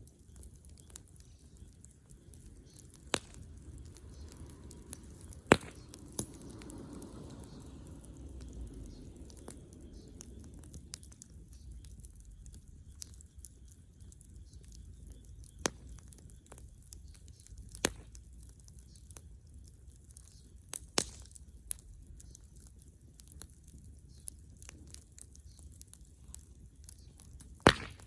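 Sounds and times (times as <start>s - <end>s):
bonfire crackling: 0.0s - 28.0s
sharp pops of burning wood: 0.0s - 28.0s.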